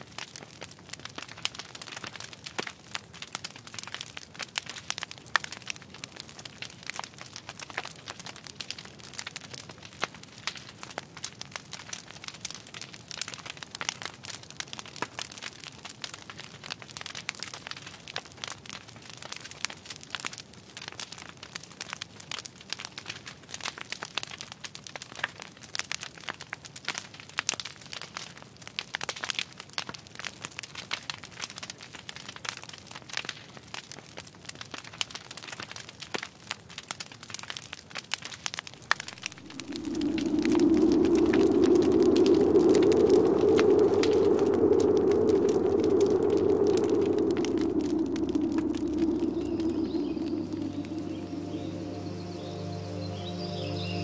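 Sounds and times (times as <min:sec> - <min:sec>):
wood fire crackling: 0:00.0 - 0:52.1.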